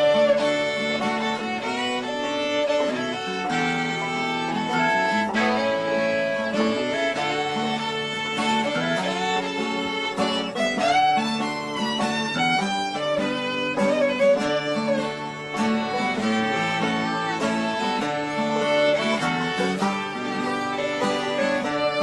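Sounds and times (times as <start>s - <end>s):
fiddle melody: 0.0s - 22.0s
guitar accompaniment: 0.0s - 22.0s.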